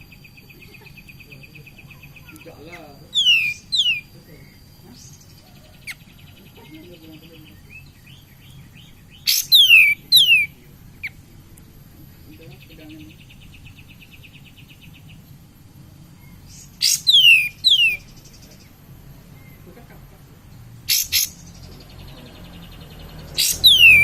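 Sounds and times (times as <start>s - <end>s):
faint rapid bird trilling: 0.0s - 20.2s, 20.8s - 24.0s.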